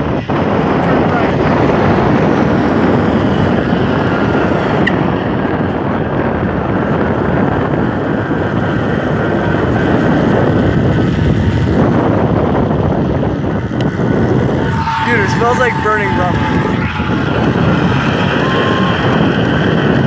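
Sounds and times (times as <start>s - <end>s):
motorbike running: 0.0s - 20.0s
wind rushing over microphone: 0.0s - 20.0s.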